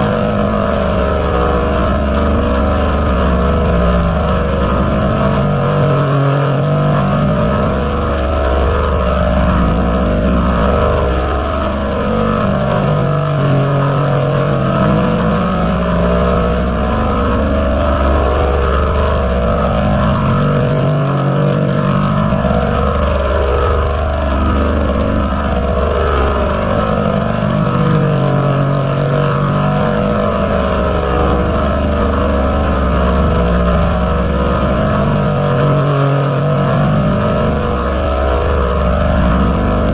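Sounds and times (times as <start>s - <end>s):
distorted buzzing noise: 0.0s - 39.9s
low droning tones: 0.0s - 39.9s.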